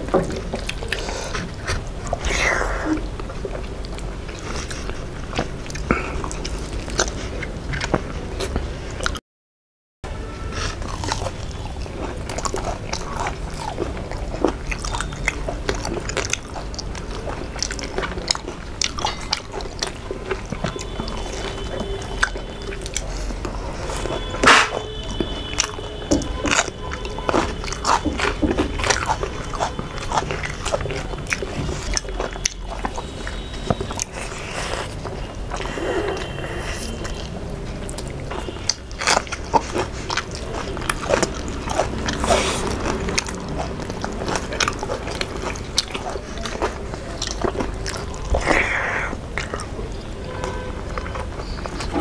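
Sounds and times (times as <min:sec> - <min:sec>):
wet chewing and lip-smacking: 0:00.0 - 0:09.2, 0:10.6 - 0:52.0.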